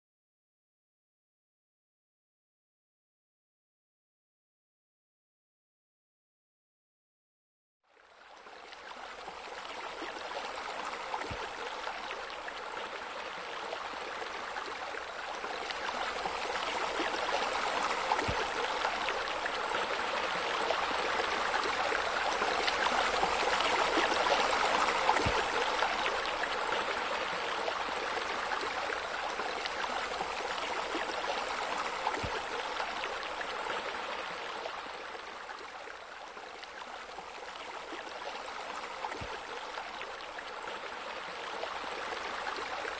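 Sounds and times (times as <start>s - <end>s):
rush of flowing water: 8.2s - 42.9s.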